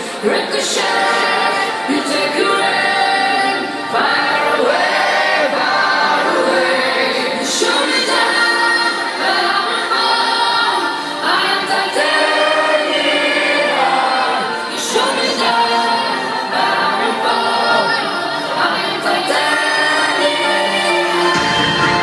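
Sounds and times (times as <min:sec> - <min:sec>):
crowd singing together: 0:00.0 - 0:22.0
live dance music: 0:00.0 - 0:22.0.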